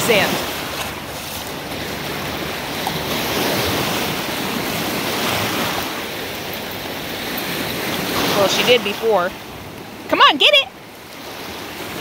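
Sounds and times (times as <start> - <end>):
waves lapping on sand beach: 0.0 - 12.0.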